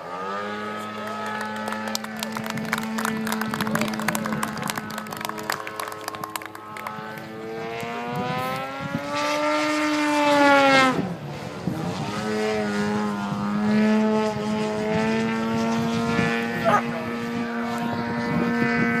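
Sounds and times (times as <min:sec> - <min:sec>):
model airplane engine passing: 0:00.0 - 0:19.0.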